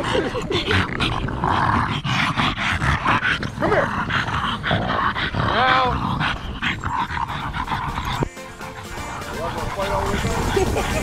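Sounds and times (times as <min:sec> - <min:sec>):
dogs breathing noisily: 0:00.0 - 0:11.0
dogs growling and scuffling: 0:00.0 - 0:11.0.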